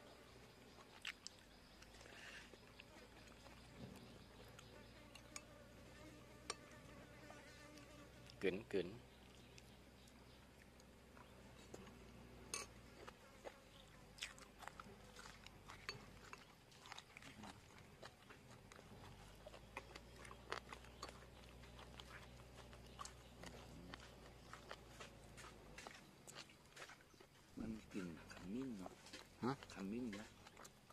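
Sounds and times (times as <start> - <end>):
people chewing and crunching: 0.0 - 30.9.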